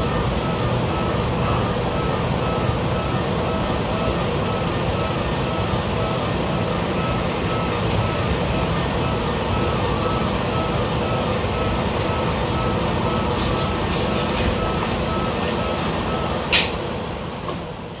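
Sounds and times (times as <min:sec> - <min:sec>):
railcar cabin running noise: 0:00.0 - 0:18.0
repeating beeping tone: 0:00.5 - 0:16.4.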